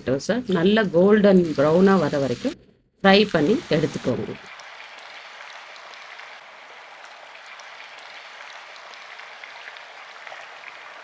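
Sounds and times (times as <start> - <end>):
potatoes sizzling in hot oil: 0.4 - 11.0.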